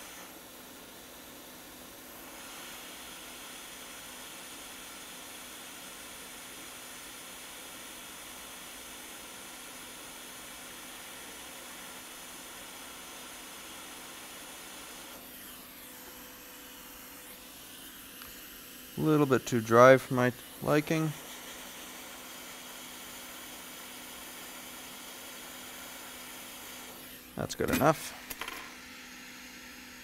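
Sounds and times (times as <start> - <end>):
hot air rework station hissing: 0.0 - 30.0.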